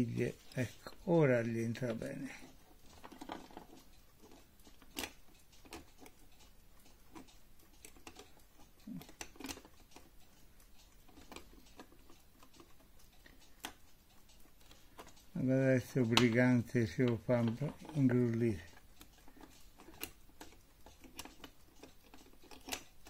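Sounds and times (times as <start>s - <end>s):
hand tool clicking on metal: 0.0s - 23.0s.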